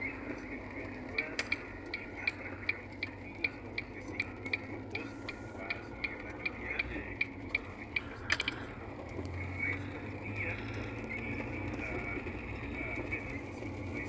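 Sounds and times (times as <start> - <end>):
moving car hum: 0.0 - 14.0
turn signal ticking: 0.0 - 14.0.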